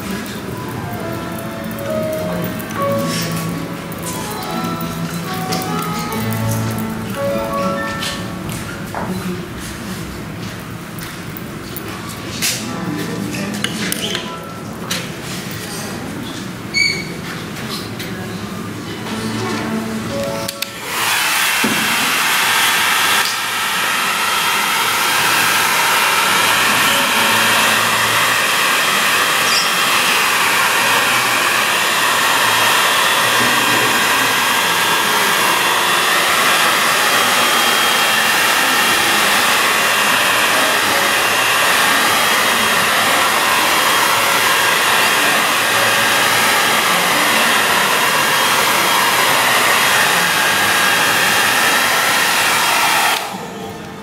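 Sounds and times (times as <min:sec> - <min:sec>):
hair dryer running: 0:00.0 - 0:09.0, 0:19.0 - 0:54.0.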